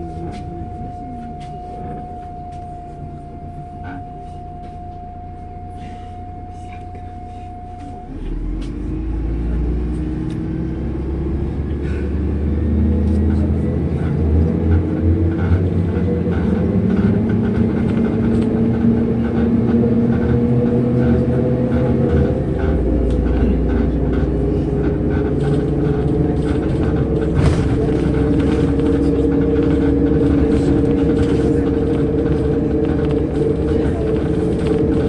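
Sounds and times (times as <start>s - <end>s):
diesel engine drone: 0.0s - 35.0s
road rumble: 0.0s - 35.0s.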